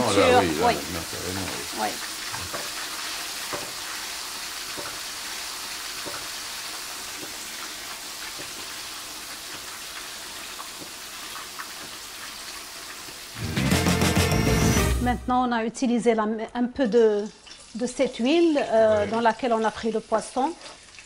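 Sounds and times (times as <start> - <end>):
fish sizzling in hot oil: 0.0 - 13.4, 17.2 - 21.0.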